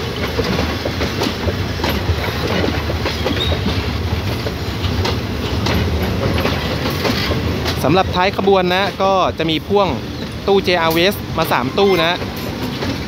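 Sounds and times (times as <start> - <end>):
train wheels clicking over joints: 0.0 - 13.0.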